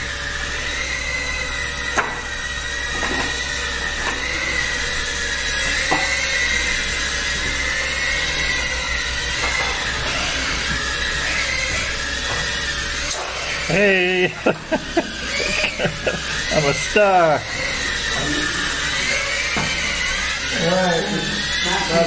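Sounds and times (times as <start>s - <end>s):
quadcopter motor whine: 0.0s - 22.0s.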